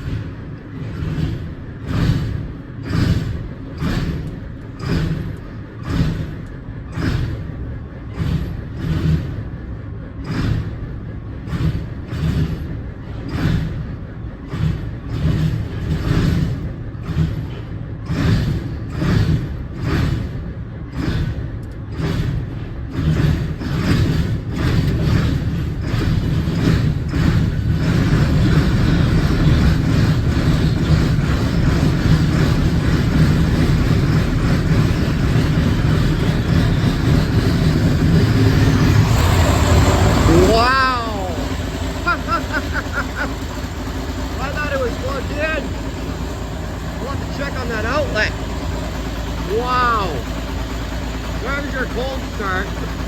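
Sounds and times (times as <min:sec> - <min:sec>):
diesel engine running unevenly: 0:00.0 - 0:53.0.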